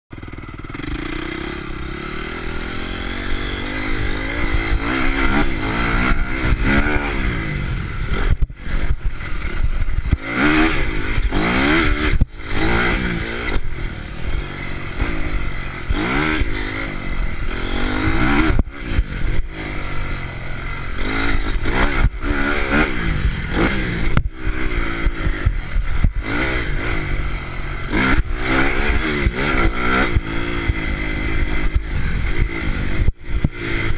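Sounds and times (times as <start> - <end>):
motocross bike engine revving: 0.1 - 33.9.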